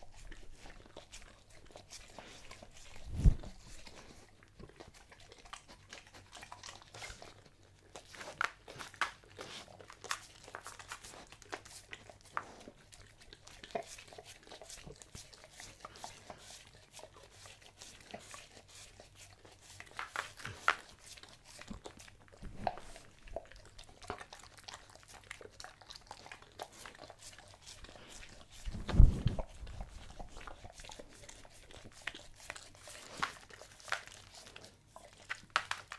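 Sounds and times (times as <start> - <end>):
dog licking and chewing: 0.0 - 35.9.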